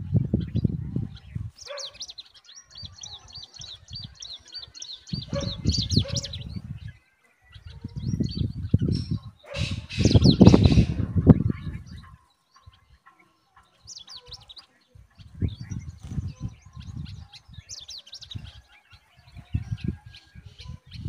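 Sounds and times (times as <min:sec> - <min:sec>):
nestlings chirping: 0:00.3 - 0:21.0.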